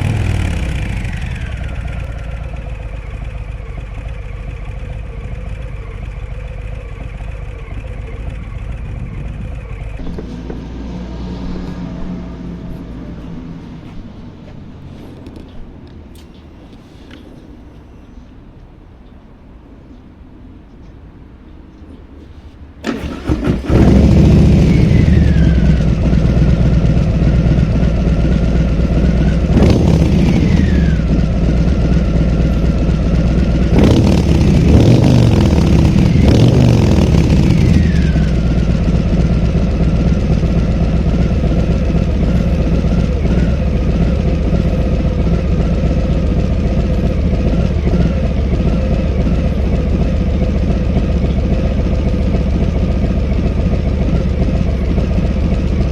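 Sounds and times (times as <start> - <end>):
motorcycle engine revving and idling: 0.0 - 16.4, 22.8 - 55.9.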